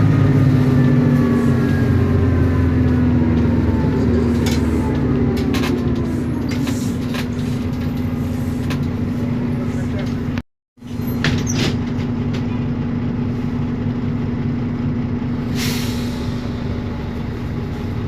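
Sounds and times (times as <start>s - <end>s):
bus diesel engine droning: 0.0s - 18.0s.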